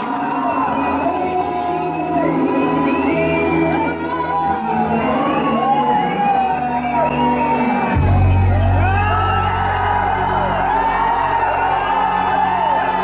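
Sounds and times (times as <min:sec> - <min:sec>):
audience whistling and cheering: 0:00.0 - 0:13.0.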